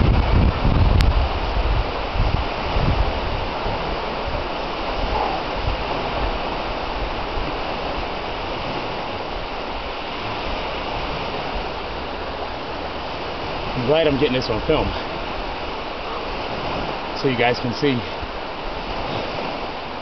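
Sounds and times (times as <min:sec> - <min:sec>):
small waves on sandy beach: 0:00.0 - 0:20.0.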